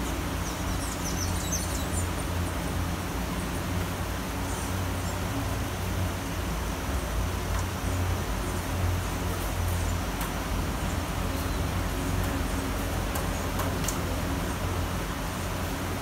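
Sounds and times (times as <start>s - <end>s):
low rumble of traffic: 0.0s - 16.0s
rain hissing: 0.0s - 16.0s.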